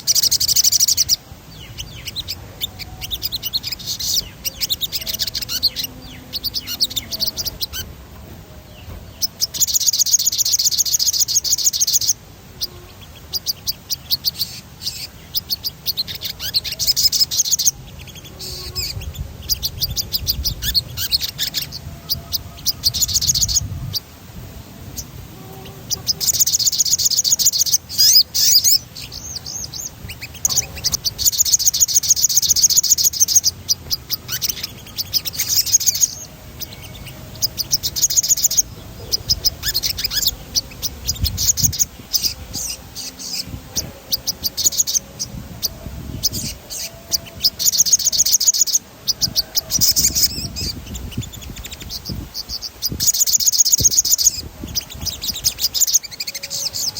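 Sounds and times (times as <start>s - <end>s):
songbird trilling: 0.0s - 24.2s, 24.8s - 56.9s.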